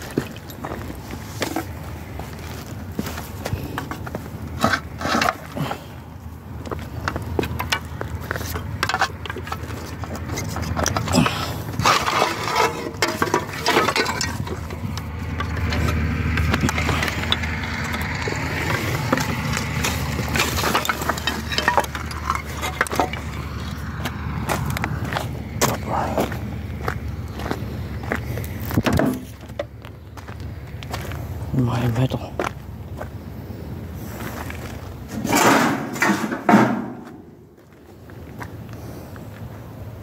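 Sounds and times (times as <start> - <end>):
steady low rumble: 0.0 - 36.0
debris crunching and scraping underfoot: 0.0 - 40.0.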